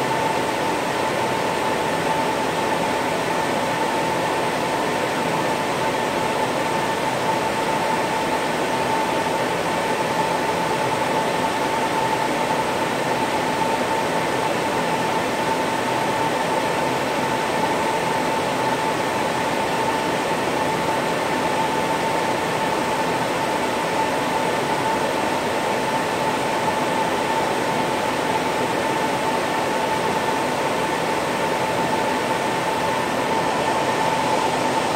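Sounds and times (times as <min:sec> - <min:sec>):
constant fan whine: 0:00.0 - 0:34.9
cooling fans rushing air: 0:00.0 - 0:34.9.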